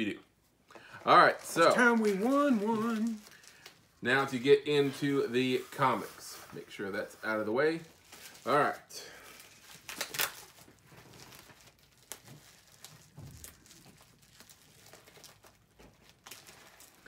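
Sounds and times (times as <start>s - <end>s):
plastic wrapping crinkling: 0.8s - 17.0s.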